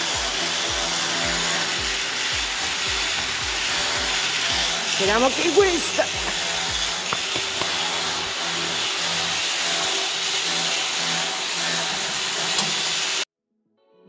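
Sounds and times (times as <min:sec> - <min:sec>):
steady machine noise: 0:00.0 - 0:13.2.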